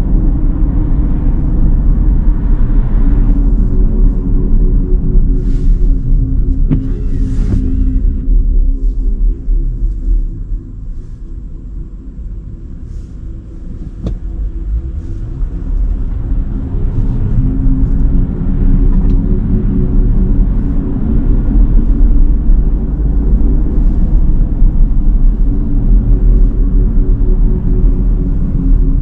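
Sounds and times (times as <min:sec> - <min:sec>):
road and tyre rumble: 0:00.0 - 0:29.0.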